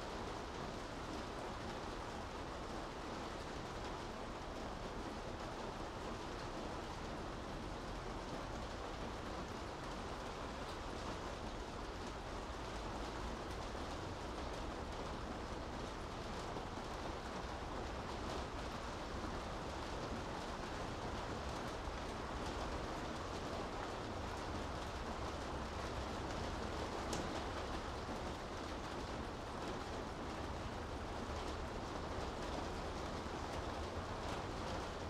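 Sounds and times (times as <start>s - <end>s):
rain falling on street: 0.0s - 35.0s.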